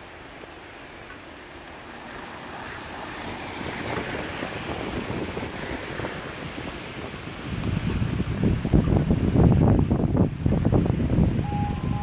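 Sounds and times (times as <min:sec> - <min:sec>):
heavy rain: 0:00.0 - 0:12.0
tyres swishing through water: 0:00.0 - 0:12.0.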